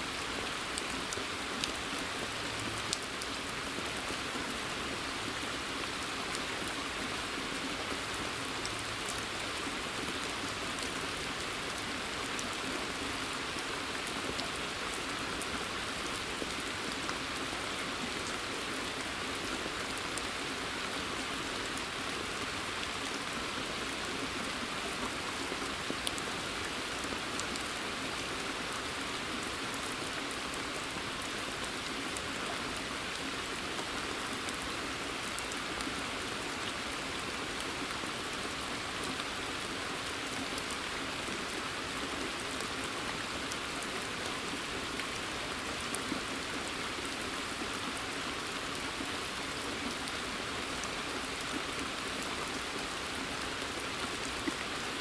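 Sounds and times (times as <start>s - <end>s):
steady rain hiss: 0.0s - 55.0s
raindrops ticking close by: 0.1s - 55.0s.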